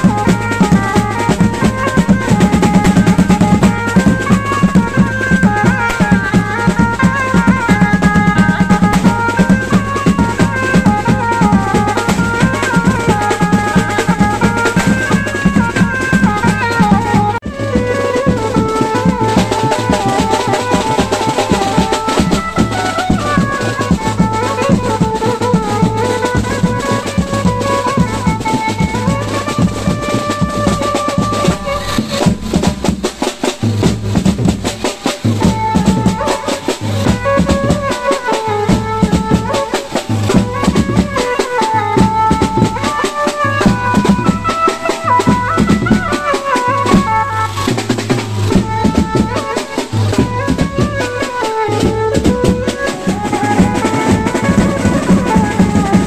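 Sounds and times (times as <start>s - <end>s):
keyboard melody: 0.0s - 32.9s, 35.5s - 56.0s
fast drumming: 0.0s - 56.0s.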